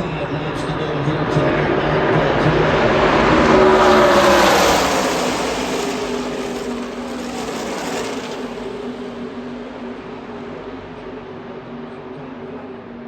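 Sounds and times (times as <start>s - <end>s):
stock cars passing at racing speed: 0.0s - 13.0s.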